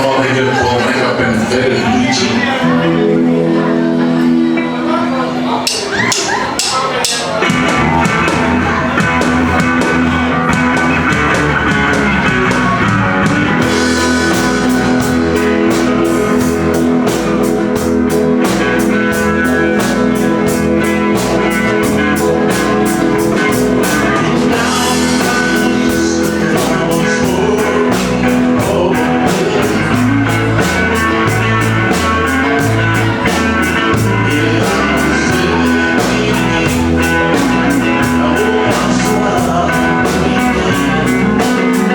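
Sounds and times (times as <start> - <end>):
live country-rock band playing: 0.0 - 41.9.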